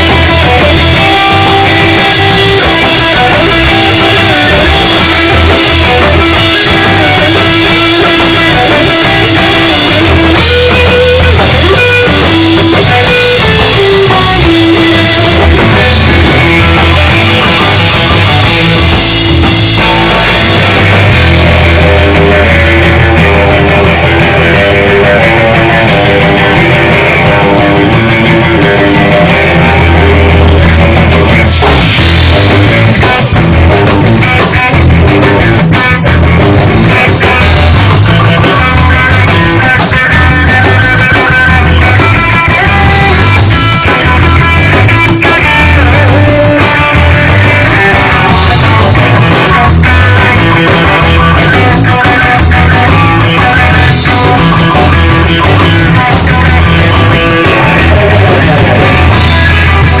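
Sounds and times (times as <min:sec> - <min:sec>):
electric guitar: 0:00.0 - 1:00.0
live rock band playing: 0:00.0 - 1:00.0.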